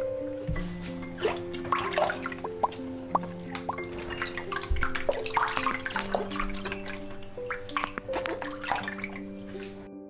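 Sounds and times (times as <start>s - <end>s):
music of sustained notes: 0.0s - 10.0s
water splashing in a sink: 1.0s - 9.9s.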